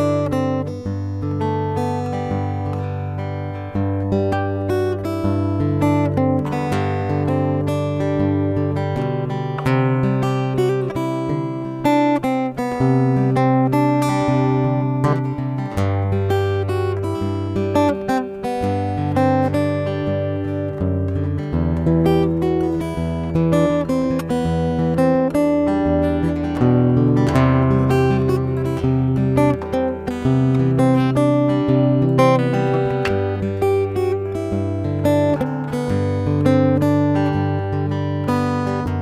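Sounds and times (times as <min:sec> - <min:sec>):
acoustic guitar plucked notes: 0:00.0 - 0:39.0.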